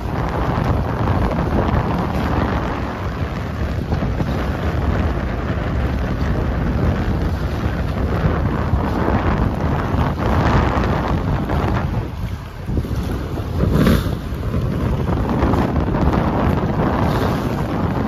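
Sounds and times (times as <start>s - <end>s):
waves chopping on lake: 0.0s - 18.0s
wind buffeting microphone: 0.0s - 18.0s.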